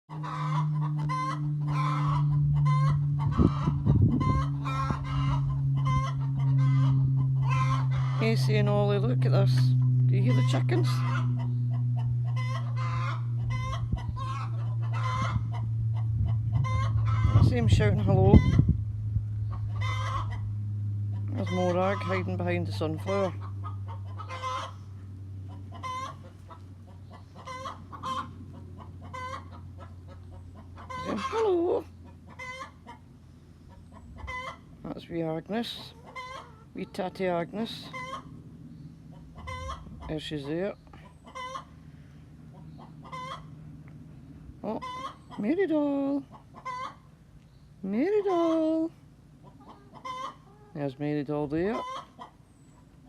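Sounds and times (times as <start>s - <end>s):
hens clucking: 0.1s - 18.8s, 19.4s - 53.0s
low rumbling: 0.1s - 49.5s
chickens squawking: 0.1s - 53.0s
steady low hum: 0.1s - 53.0s.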